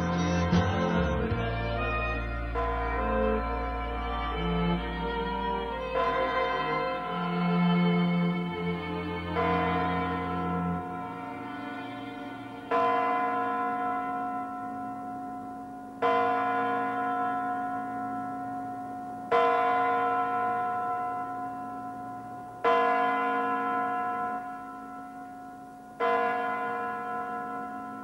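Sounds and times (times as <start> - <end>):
large clock bell striking: 2.1 - 4.9, 6.0 - 7.6, 9.2 - 28.0.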